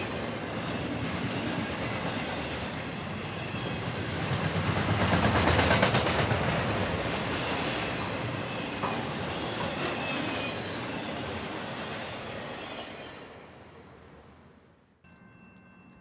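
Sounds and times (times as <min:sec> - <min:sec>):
freight train cars rolling: 0:00.0 - 0:14.1.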